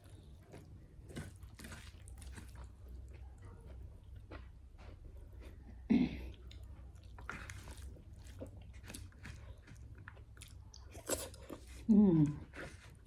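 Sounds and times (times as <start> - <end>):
person chewing close-up: 0.0 - 13.0.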